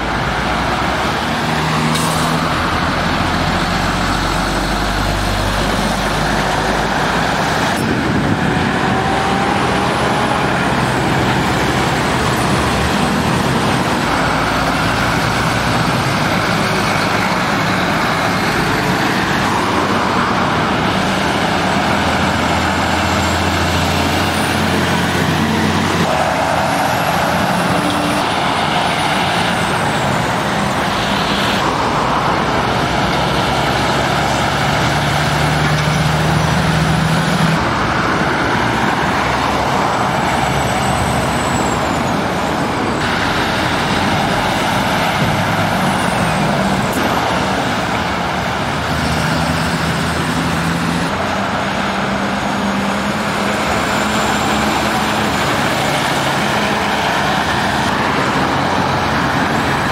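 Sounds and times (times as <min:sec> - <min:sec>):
diesel engines running: 0:00.0 - 0:59.9
tyres on the road: 0:00.0 - 0:59.9.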